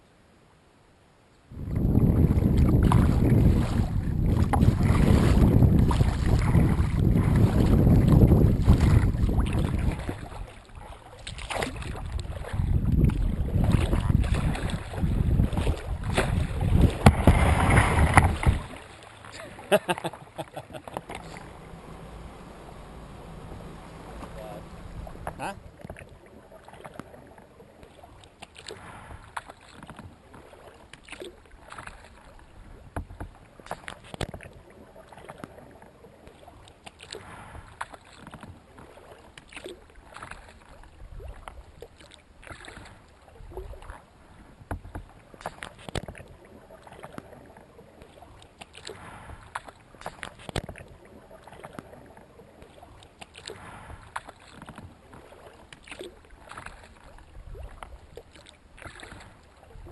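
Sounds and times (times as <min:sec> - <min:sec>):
water lapping along hull: 0:00.0 - 0:59.9
paddle splashing and dripping: 0:01.6 - 0:59.9.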